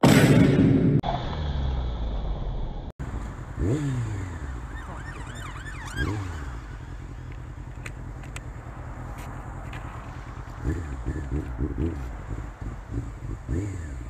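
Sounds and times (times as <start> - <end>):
motorcycle engine: 0.0 - 14.0.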